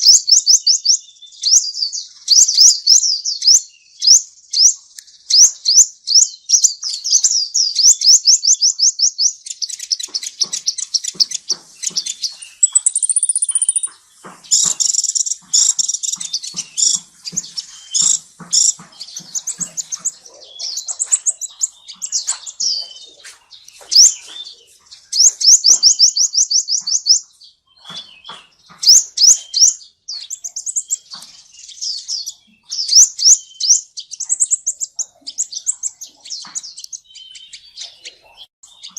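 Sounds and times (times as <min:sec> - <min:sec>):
finch song trills: 0:00.0 - 0:38.9.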